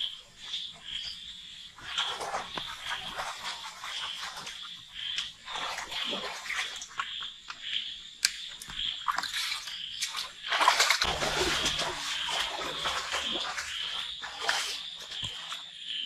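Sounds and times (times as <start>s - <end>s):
frogs calling: 0.0s - 16.0s
splashing: 0.0s - 16.0s.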